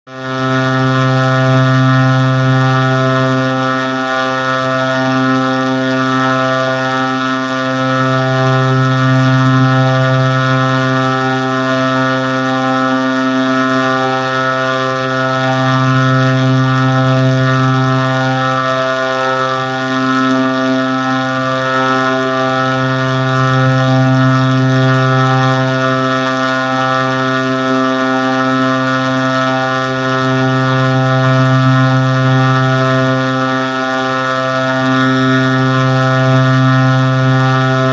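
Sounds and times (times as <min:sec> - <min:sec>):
low droning tone: 0:00.1 - 0:37.9.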